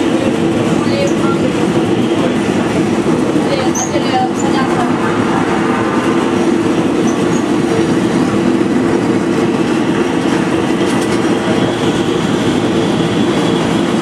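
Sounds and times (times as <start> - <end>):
train engine drone: 0.0 - 14.0
wheels rumbling on rails: 0.0 - 14.0.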